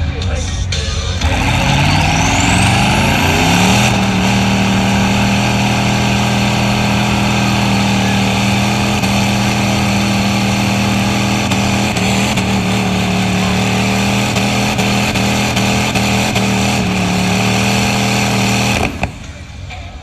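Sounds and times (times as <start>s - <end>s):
truck engine running at high revs: 0.0s - 20.0s.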